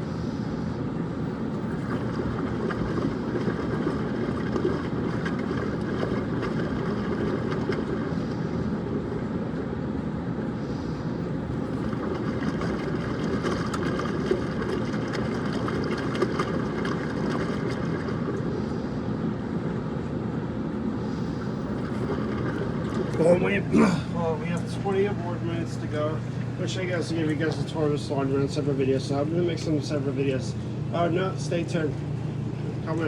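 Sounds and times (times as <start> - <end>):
washing machines rumbling: 0.0 - 33.0.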